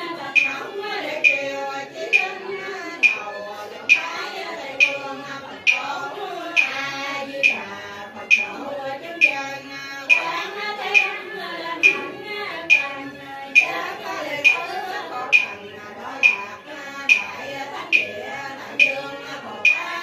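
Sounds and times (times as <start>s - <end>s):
voices chanting a prayer: 0.0s - 20.0s
sharp struck percussion beat: 0.2s - 20.0s.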